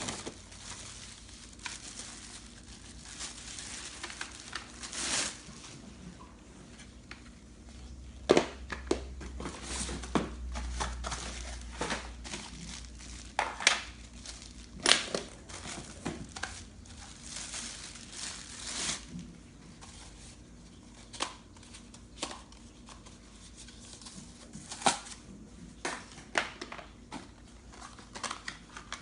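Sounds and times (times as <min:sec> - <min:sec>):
packaging crinkling and rustling: 0:00.0 - 0:06.0, 0:09.3 - 0:29.0.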